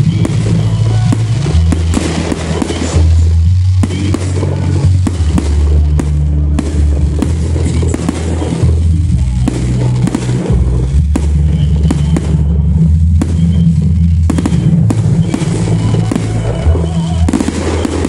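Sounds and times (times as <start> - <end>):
fireworks bangs and crackles: 0.0 - 18.0
music with heavy bass: 0.0 - 18.0.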